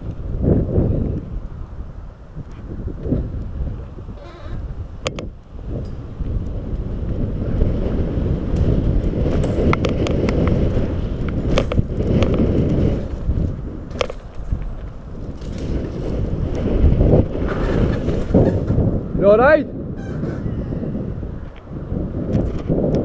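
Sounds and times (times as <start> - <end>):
bike tyre rumble: 0.0 - 23.0
wind buffeting microphone: 0.0 - 23.0
bike clicks and rattles: 2.4 - 19.3, 21.4 - 23.0.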